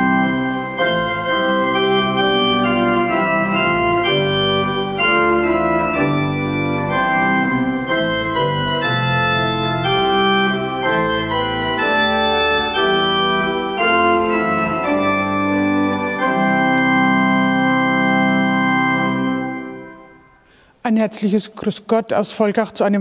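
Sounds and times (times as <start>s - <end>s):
pipe organ chords: 0.0s - 20.6s.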